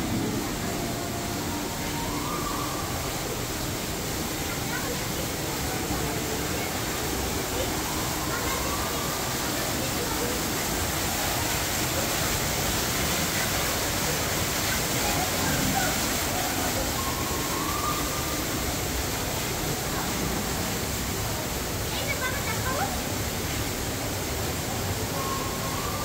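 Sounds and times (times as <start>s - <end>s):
faint voices: 0.0s - 26.0s
waterfall rushing over rock: 0.0s - 26.0s.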